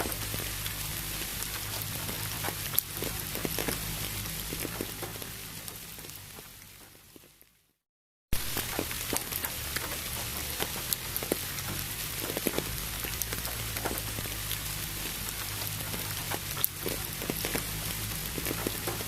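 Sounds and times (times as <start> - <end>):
steady rain drops: 0.0 - 19.0.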